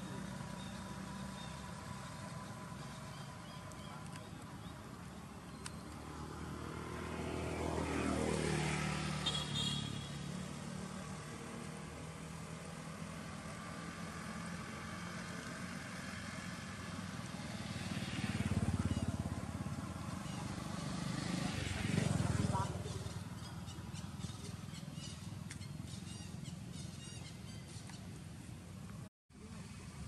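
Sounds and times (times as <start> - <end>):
motorbike engines passing: 0.0 - 30.0.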